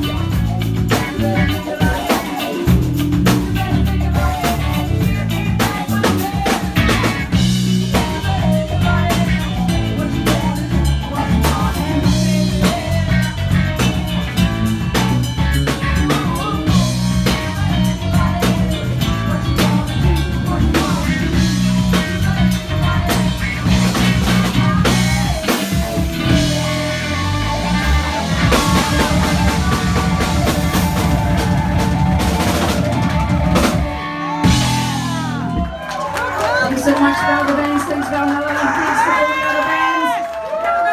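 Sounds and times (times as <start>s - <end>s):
drum kit: 0.0s - 36.4s
bass guitar: 0.0s - 38.6s
electric guitars: 0.0s - 40.9s.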